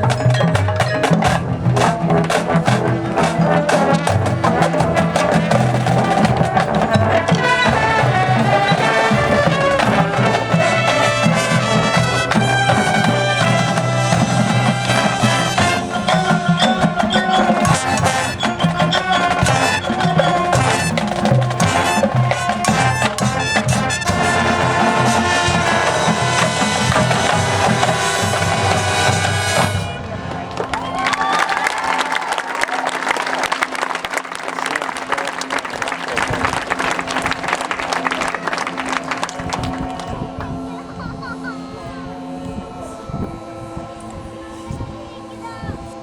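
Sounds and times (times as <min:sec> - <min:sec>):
brass melody: 0:00.0 - 0:31.1, 0:32.6 - 0:44.5
drums and percussion: 0:00.0 - 0:43.0.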